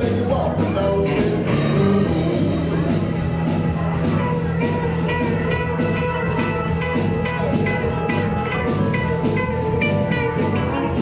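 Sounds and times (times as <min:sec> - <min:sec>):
drum kit steady beat: 0:00.0 - 0:11.0
live blues-rock band playing: 0:00.0 - 0:11.0.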